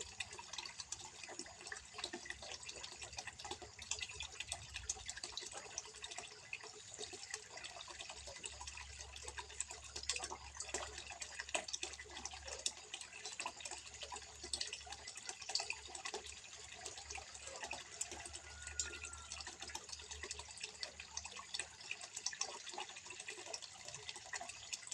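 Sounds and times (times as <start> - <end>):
water trickling into pond: 0.0 - 24.9.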